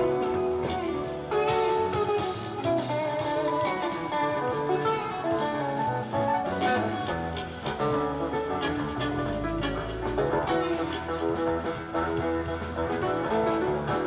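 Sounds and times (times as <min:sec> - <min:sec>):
bass guitar: 0:00.0 - 0:14.0
drums: 0:00.0 - 0:14.0
electric guitar lead notes: 0:00.0 - 0:14.0.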